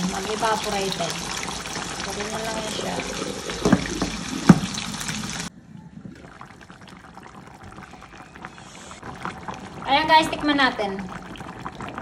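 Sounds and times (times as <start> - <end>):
fish broth bubbling in a pan: 0.0 - 12.0.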